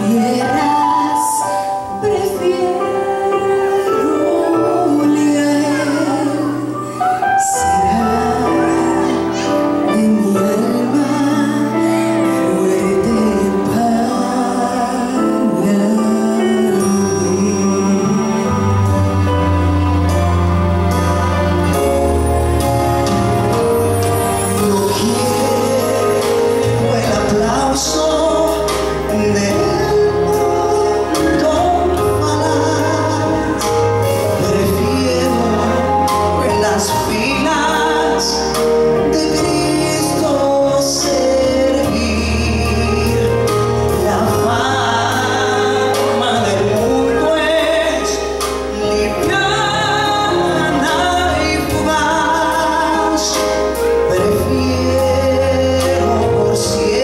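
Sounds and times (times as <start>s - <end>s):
man singing into microphone: 0.0s - 20.3s, 23.0s - 57.0s
accompanying music with bass: 0.0s - 57.0s.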